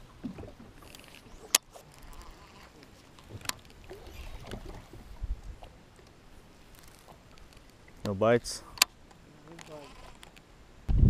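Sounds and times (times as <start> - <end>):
faint handling noise: 0.7 - 10.5.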